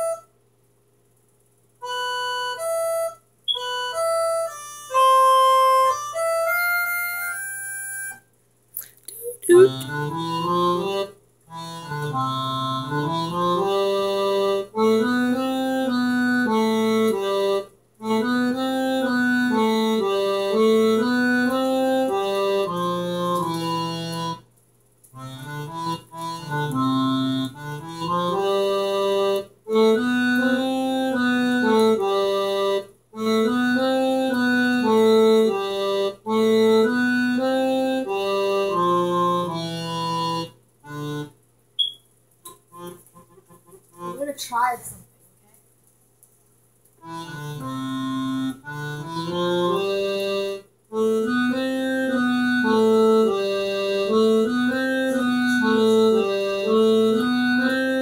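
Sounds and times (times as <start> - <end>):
home organ playing a tune: 0.0 - 0.4, 1.8 - 8.3, 9.5 - 24.5, 25.1 - 41.9, 42.5 - 44.3, 47.0 - 58.0.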